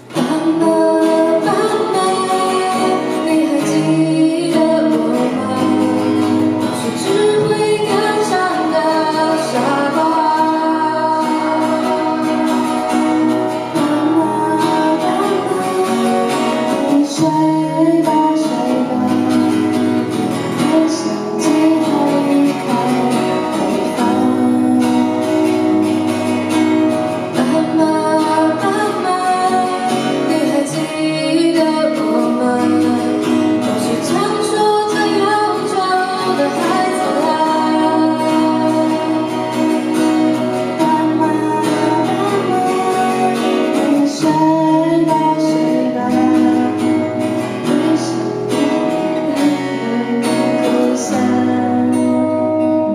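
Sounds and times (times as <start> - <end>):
acoustic guitar: 0.0 - 52.9
person singing: 0.0 - 52.9.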